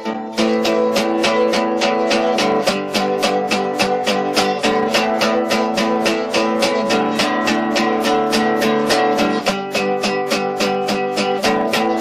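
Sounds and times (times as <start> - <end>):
strummed guitar: 0.0 - 12.0.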